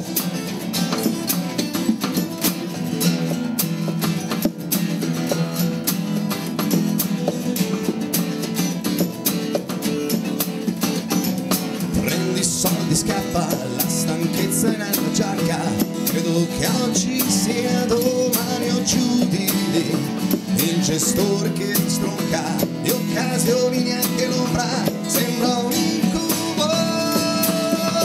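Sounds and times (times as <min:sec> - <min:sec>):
acoustic bass guitar: 0:00.0 - 0:28.0
drum kit beat: 0:00.0 - 0:28.0
strummed acoustic guitars: 0:00.0 - 0:28.0.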